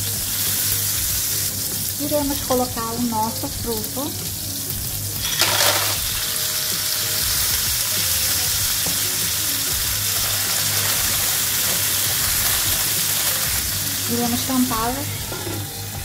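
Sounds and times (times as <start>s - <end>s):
clams sizzling in frying pan: 0.0s - 16.0s.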